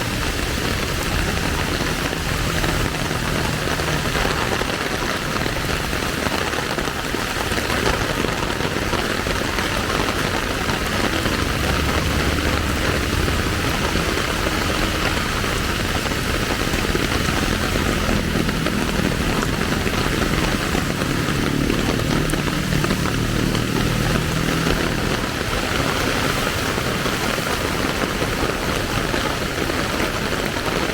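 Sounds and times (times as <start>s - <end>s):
steady rain falling: 0.0s - 30.9s
vehicle engines rumbling: 0.0s - 30.9s.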